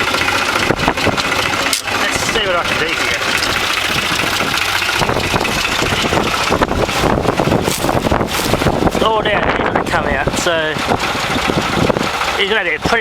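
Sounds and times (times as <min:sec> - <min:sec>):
tractor engine running: 0:00.0 - 0:13.0
wind noise on microphone: 0:00.5 - 0:01.6, 0:02.4 - 0:13.0.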